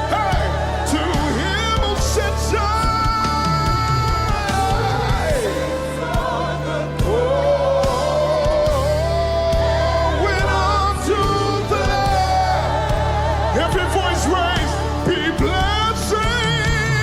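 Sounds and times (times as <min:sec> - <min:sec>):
band bass: 0:00.0 - 0:17.0
singers with vibrato: 0:00.0 - 0:17.0.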